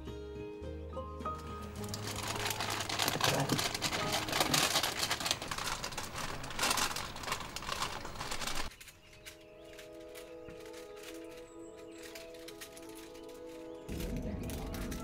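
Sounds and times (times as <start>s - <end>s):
paper peeling off hard candy: 1.6s - 15.0s.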